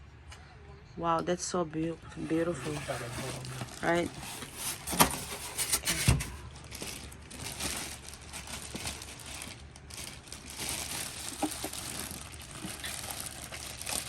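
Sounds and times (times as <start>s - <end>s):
packaging crinkling and rustling: 2.3s - 14.0s.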